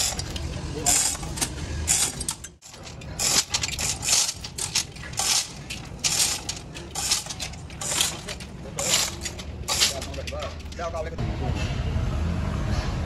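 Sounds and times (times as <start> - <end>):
hand tool striking metal: 0.0 - 10.9.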